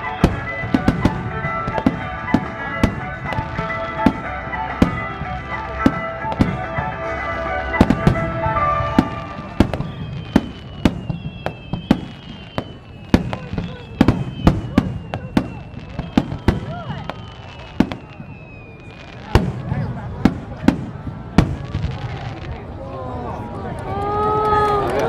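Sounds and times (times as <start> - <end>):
festival music: 0.0 - 22.6
fireworks bursting: 0.0 - 22.8.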